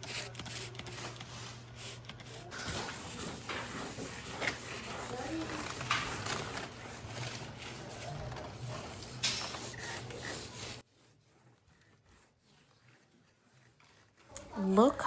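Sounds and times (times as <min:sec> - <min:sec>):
scrubbing a wall: 0:02.2 - 0:15.0.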